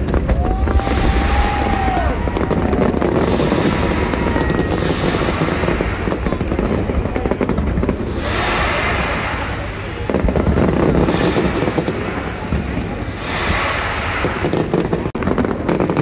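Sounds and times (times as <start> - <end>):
fireworks crackling and popping: 0.0 - 16.0
low rumble of firework bursts: 0.0 - 16.0.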